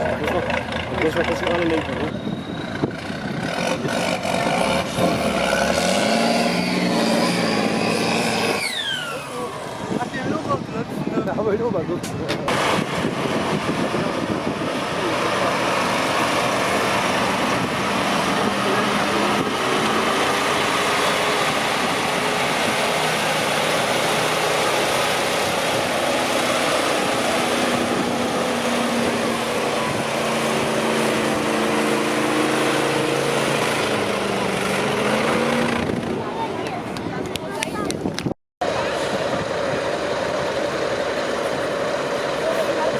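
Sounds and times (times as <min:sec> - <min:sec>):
truck engine running under load: 0:00.0 - 0:42.9.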